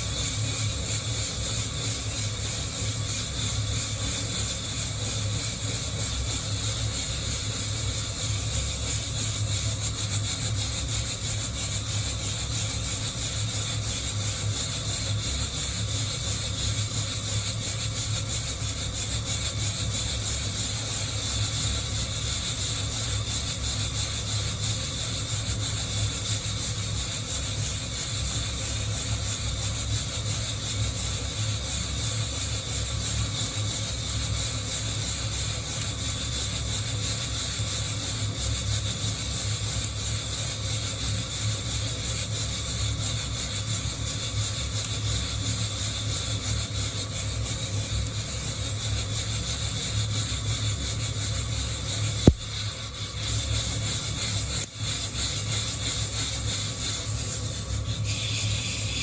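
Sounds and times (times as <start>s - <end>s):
coffee beans rattling in roaster: 0.0s - 59.0s.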